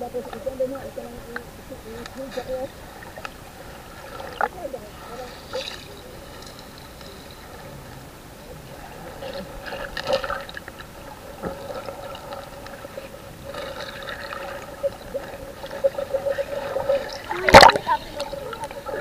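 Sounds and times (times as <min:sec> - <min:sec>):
faint steady hum: 0:00.0 - 0:19.0
water sloshing underwater: 0:00.0 - 0:19.0.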